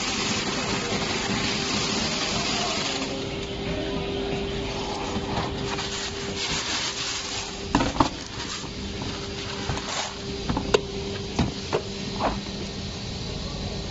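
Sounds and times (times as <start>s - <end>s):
sorting machine humming: 0.0s - 13.9s.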